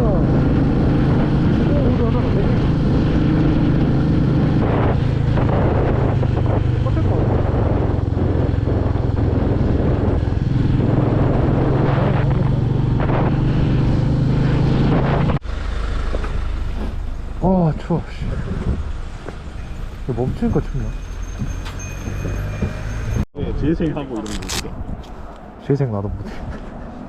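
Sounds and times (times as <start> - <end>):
wind rushing over microphone: 0.0 - 15.4, 17.8 - 27.0.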